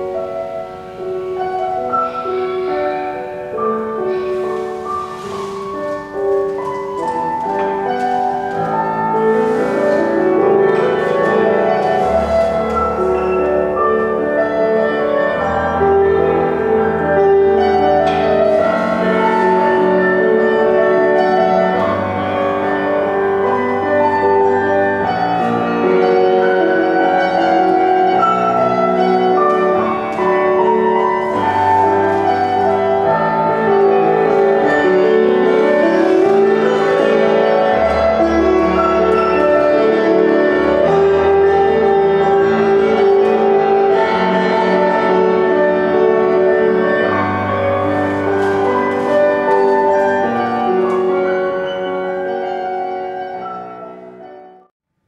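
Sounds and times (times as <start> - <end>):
classical piano music: 0.0 - 54.7.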